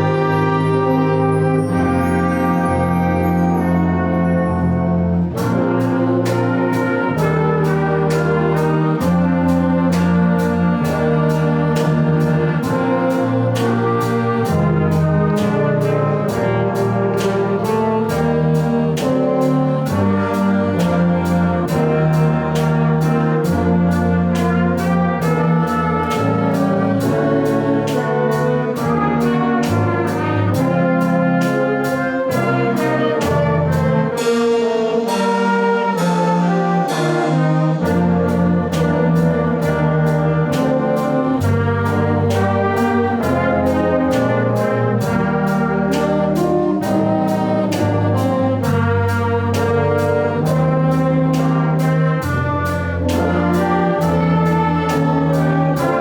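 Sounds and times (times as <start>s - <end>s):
brass ensemble playing: 0.0s - 56.0s
percussion beat: 0.0s - 56.0s.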